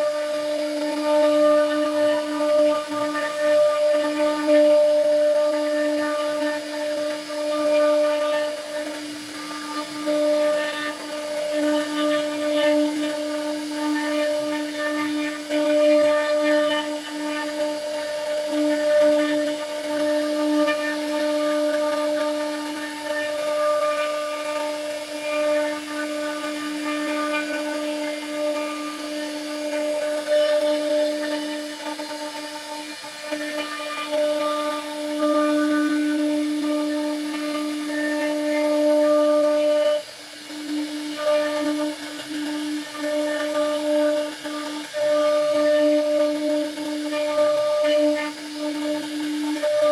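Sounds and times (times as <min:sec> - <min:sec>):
bit rasping through wood: 0:00.0 - 0:49.9
router spindle whine: 0:00.0 - 0:49.9.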